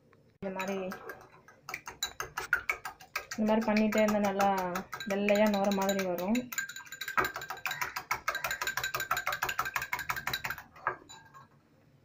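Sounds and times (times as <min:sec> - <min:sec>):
whisk clinking against glass bowl: 0:00.5 - 0:11.5.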